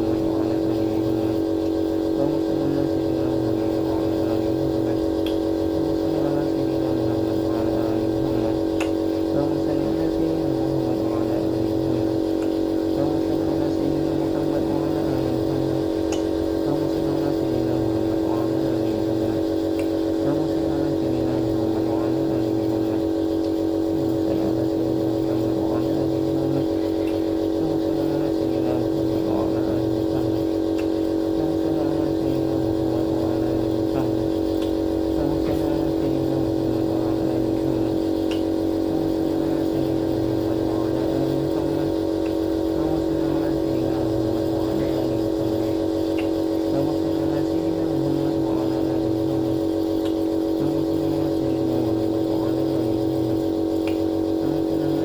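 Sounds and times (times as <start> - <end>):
nebulizer buzzing hum: 0.0 - 55.0.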